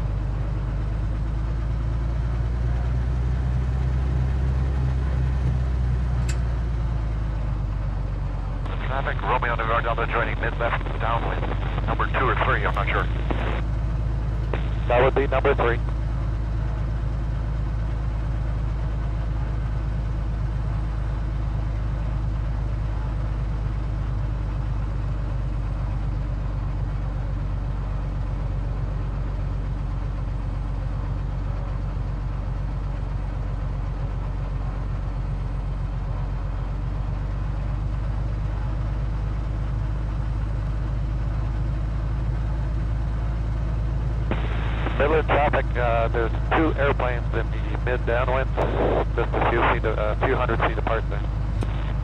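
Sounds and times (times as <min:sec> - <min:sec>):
aircraft engine and propeller droning: 0:00.0 - 0:52.0.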